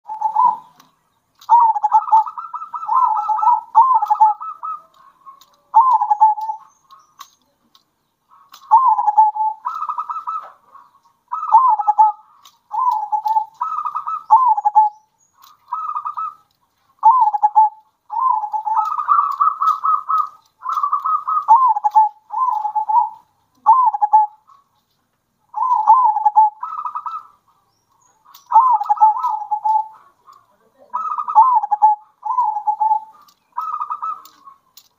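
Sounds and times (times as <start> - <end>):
doves cooing: 0.1 - 24.9, 25.5 - 34.9.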